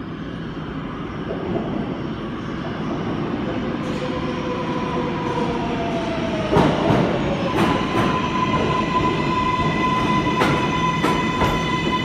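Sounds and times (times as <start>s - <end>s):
subway train rumble and whine: 0.0s - 12.0s.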